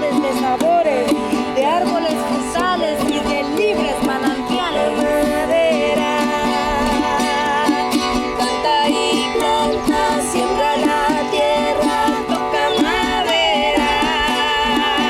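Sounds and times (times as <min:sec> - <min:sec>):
folk music with plucked strings: 0:00.0 - 0:15.0.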